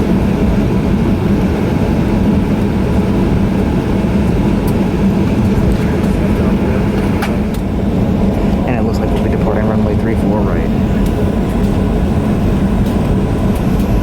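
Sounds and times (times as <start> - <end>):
aircraft cabin hum and rumble: 0.0 - 14.0.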